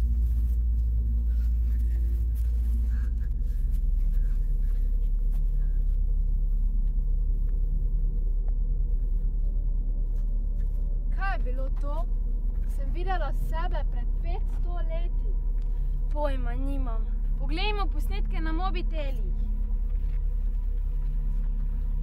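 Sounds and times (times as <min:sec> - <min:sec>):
deep rumbling drone: 0:00.0 - 0:22.0.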